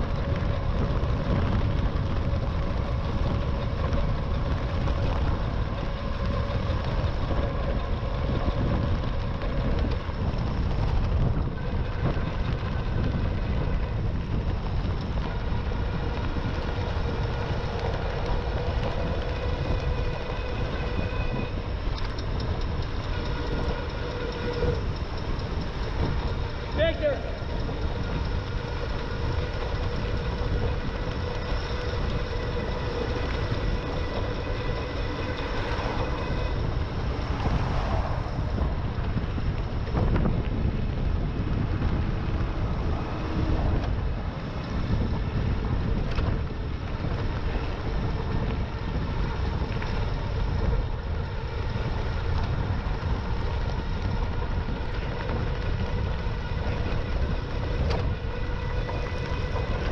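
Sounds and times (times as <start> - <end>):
electric motor whine: 0.0 - 59.9
wind on microphone: 0.0 - 59.9.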